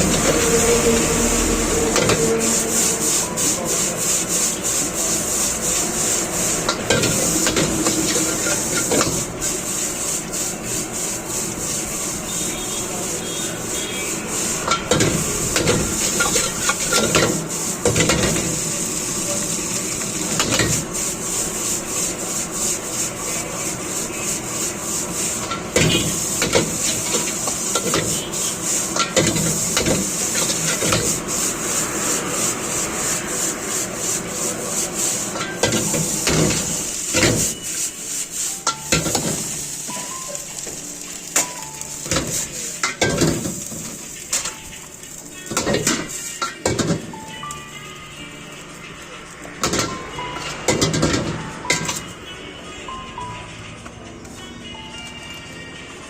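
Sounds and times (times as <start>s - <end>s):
metal spatula scraping a wok: 0.0s - 47.1s
hiss of frying: 0.0s - 52.1s.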